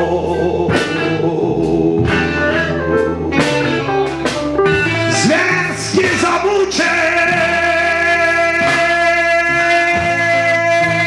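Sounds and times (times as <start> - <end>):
electric guitar: 0.0 - 11.0
live reggae band: 0.0 - 11.0
man singing: 0.0 - 11.0.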